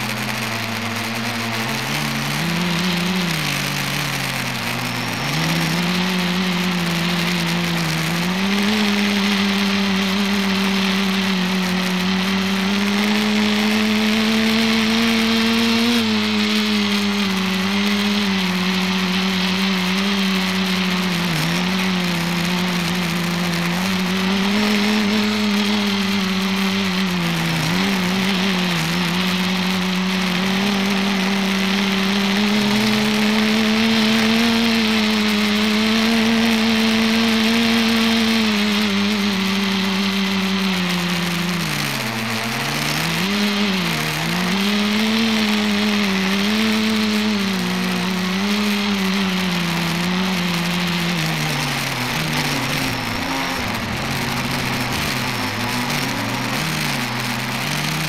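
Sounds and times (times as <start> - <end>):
drone motors and propellers droning: 0.0 - 58.0.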